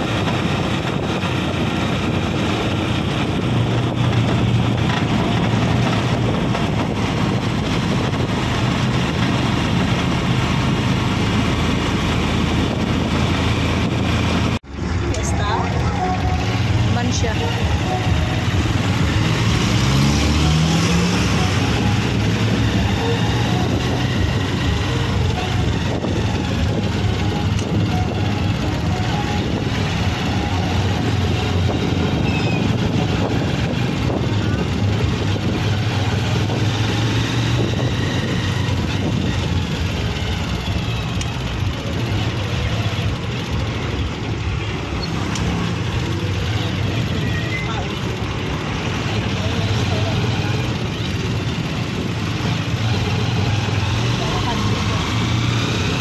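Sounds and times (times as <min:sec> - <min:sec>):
engine hum and road rush: 0:00.0 - 0:56.0.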